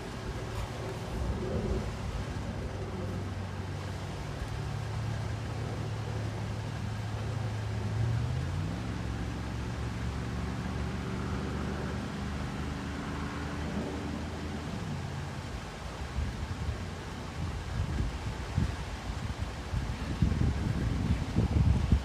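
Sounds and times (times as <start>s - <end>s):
rushing noise: 0.0s - 22.0s.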